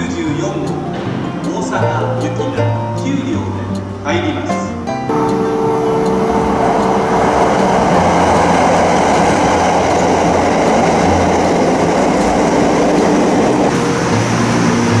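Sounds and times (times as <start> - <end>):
electric train rolling on rails: 0.0 - 15.0.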